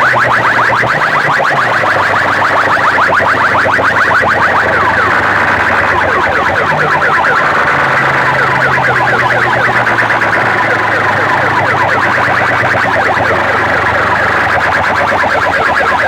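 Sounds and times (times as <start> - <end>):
electronic siren chirps: 0.0 - 16.0.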